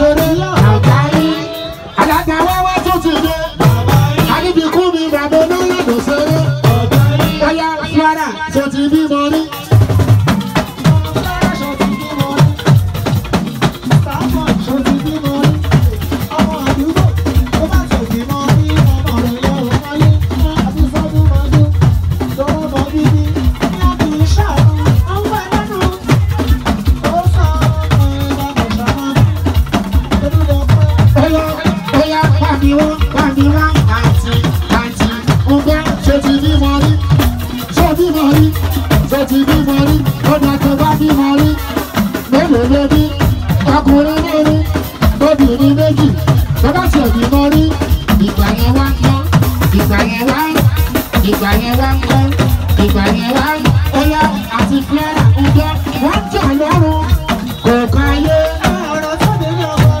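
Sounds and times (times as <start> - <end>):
drums with pitch-bending low notes: 0.0 - 60.0
man singing into microphone: 0.0 - 60.0.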